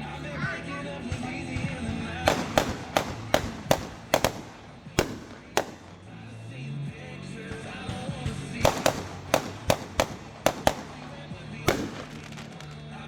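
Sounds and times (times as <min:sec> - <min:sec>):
music playing: 0:00.0 - 0:13.0
fireworks banging: 0:01.0 - 0:13.0.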